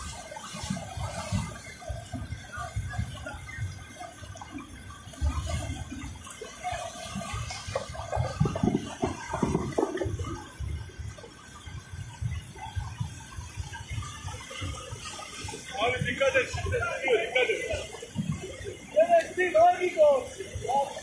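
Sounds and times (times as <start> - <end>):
rushing floodwater: 0.0 - 21.0.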